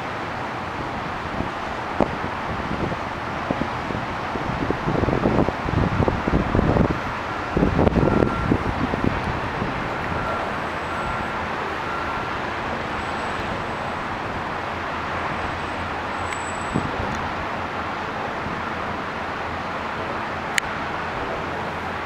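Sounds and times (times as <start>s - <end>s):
distant city traffic: 0.0s - 22.0s
wind gusts buffeting microphone: 0.3s - 19.7s.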